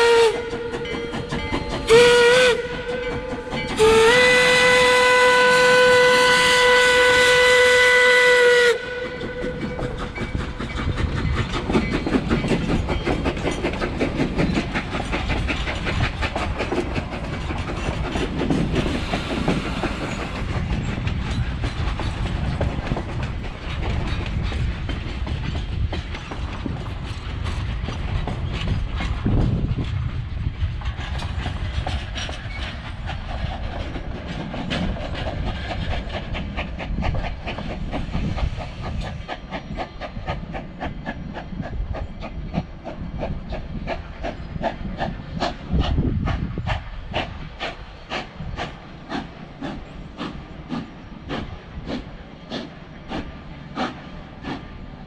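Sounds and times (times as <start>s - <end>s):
coaches clicking over rails: 0.0s - 55.0s
steam train rolling past: 0.0s - 55.0s.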